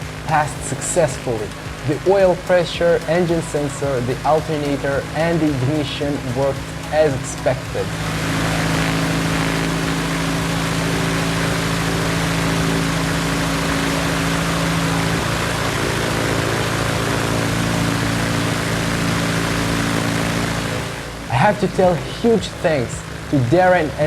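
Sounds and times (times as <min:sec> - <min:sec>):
airplane piston engine and propeller: 0:00.0 - 0:24.0.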